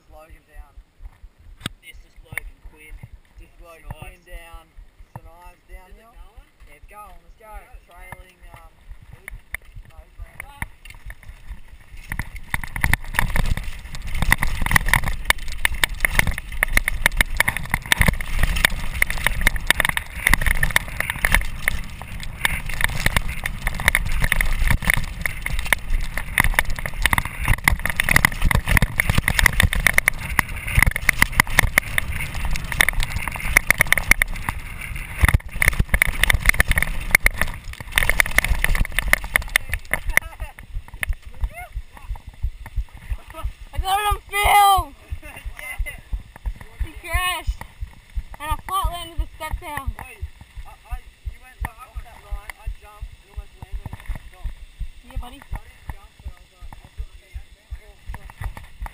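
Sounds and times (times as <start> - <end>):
wind buffeting camera: 0.0 - 58.9
tyre noise on dirt: 2.3 - 58.9
mountain bike rattling over rocks: 5.2 - 58.9.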